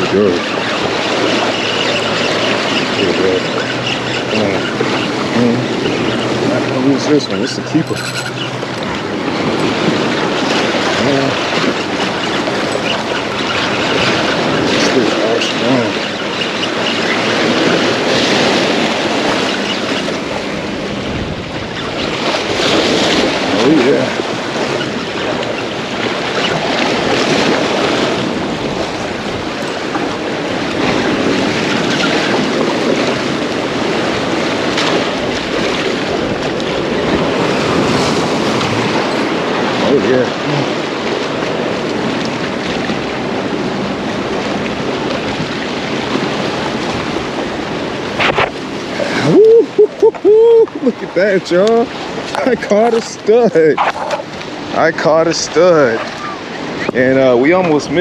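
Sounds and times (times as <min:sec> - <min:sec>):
rushing water: 0:00.0 - 0:58.0
surf washing: 0:00.0 - 0:58.0
wind: 0:00.0 - 0:58.0.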